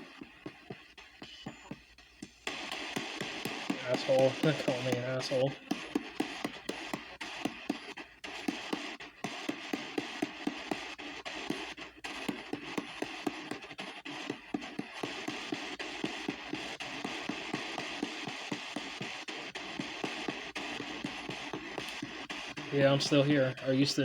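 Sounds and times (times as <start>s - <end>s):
choppy radio static: 0.0s - 24.0s
radio sweep clicks: 0.0s - 24.0s
snatches of broadcast sound: 0.0s - 24.0s.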